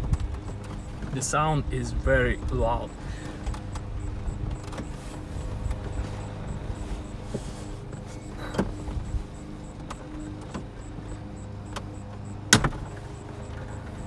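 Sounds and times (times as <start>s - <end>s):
low cabin hum: 0.0s - 14.0s.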